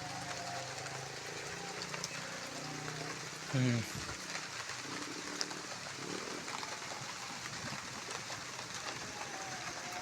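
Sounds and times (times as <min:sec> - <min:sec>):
rain falling steadily: 0:00.0 - 0:10.0.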